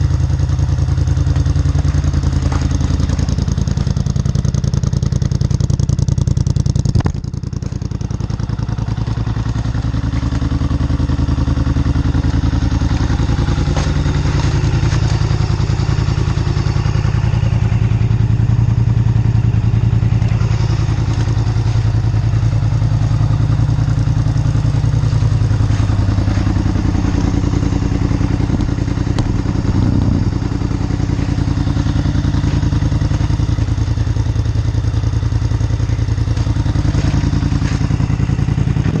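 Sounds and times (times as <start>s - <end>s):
atv engine idling: 0.0s - 39.0s.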